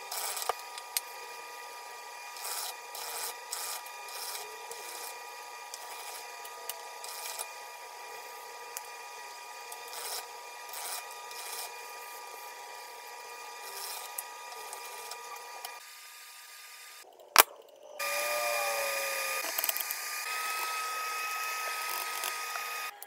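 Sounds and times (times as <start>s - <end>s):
pasta machine cranking: 0.0s - 15.8s, 18.0s - 23.0s.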